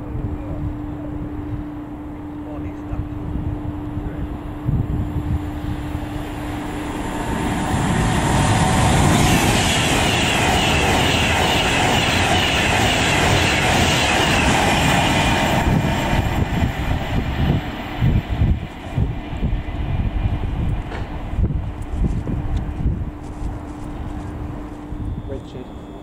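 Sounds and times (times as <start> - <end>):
high whine sweeping down: 0.0 - 21.7
train passing at speed: 0.0 - 26.0.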